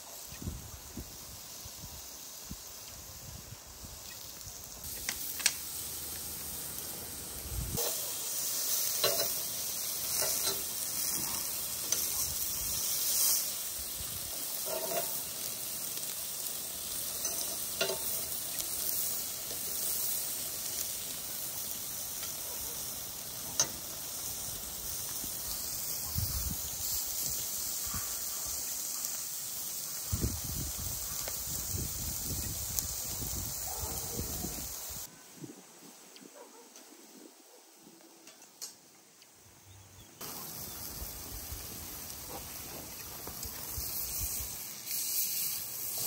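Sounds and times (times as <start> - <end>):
food sizzling: 0.0 - 36.4, 39.9 - 46.0.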